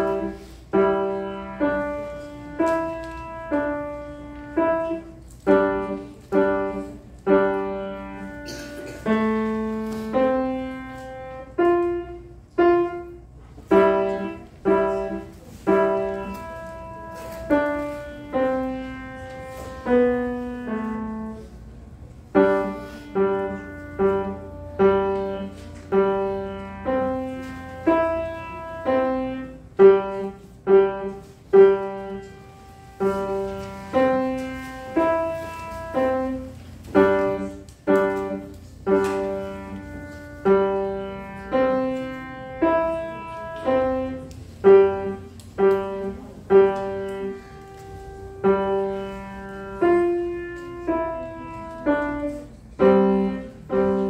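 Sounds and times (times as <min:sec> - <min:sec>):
solo piano chords: 0:00.0 - 0:54.0.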